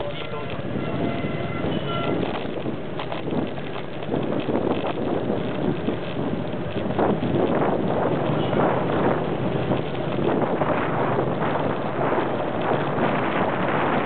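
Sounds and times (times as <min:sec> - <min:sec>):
street traffic: 0:00.0 - 0:14.0
wind buffeting microphone: 0:00.0 - 0:14.0.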